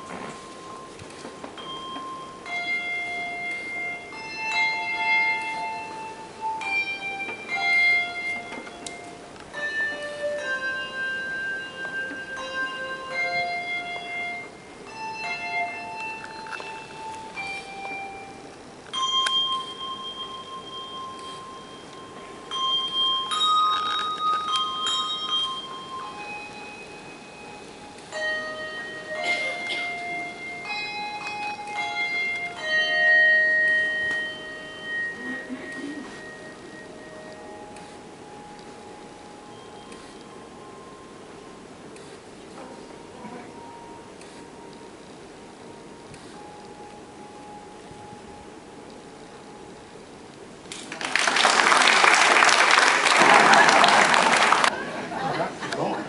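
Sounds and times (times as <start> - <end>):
handbell choir playing a tune: 0.0 - 50.1.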